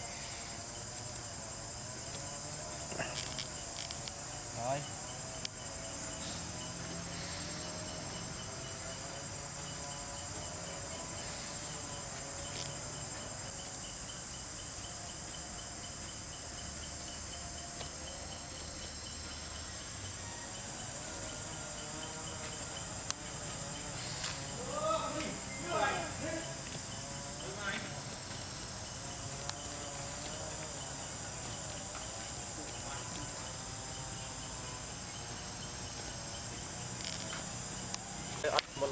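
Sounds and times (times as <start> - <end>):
high-pitched insect buzz: 0.0 - 38.9
insect chirp pulse: 0.0 - 38.9.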